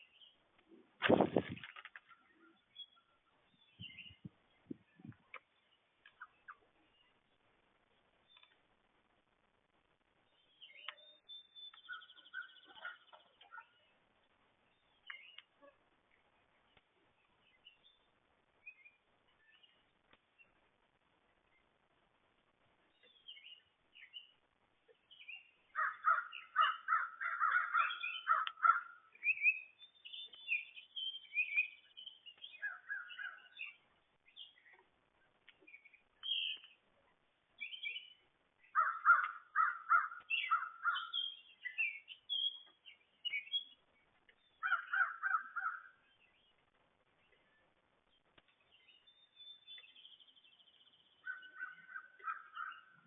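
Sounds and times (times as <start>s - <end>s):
high chirps of small birds: 1.1s - 7.4s, 10.2s - 20.6s, 22.9s - 53.0s
repeated mid-pitched bird calls: 1.1s - 8.6s, 10.2s - 20.6s, 22.8s - 53.0s.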